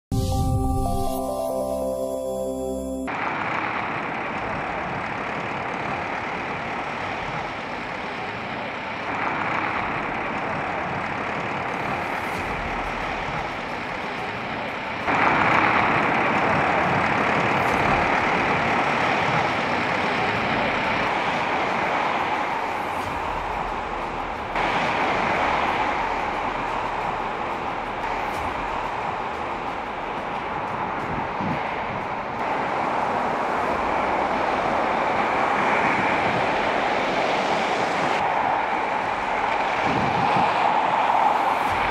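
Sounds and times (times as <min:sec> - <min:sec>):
snowplow truck running: 0:01.2 - 0:41.9
vehicle engine noise: 0:03.1 - 0:41.9.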